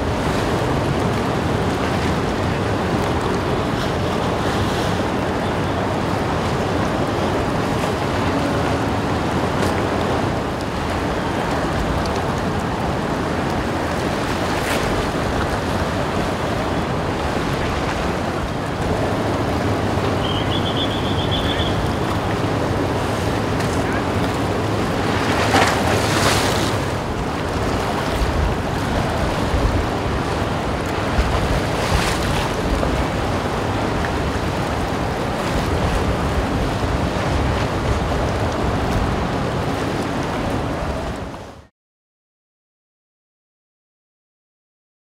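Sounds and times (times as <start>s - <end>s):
low ship hum: 0.0s - 41.6s
sea water rushing: 0.0s - 41.7s.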